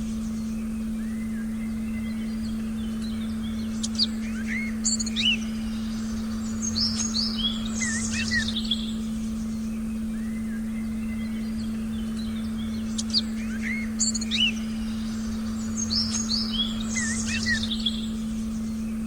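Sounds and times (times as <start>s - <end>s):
birds chirping: 0.0s - 19.0s
low meditation tone: 0.0s - 19.0s.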